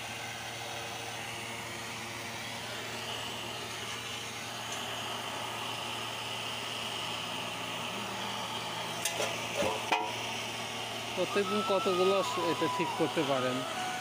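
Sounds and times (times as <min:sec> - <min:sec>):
constant low hum: 0:00.0 - 0:14.0
faint high whine: 0:00.0 - 0:14.0.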